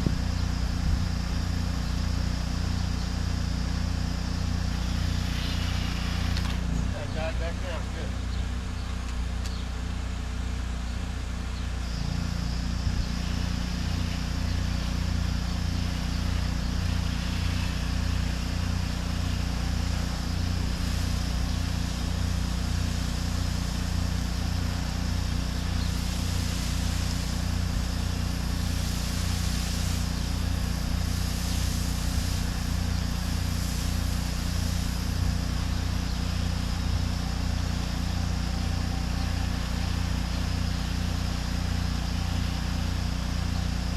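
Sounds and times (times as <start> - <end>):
high steady hiss: 0.0 - 43.9
pressure washer engine running: 0.0 - 43.9.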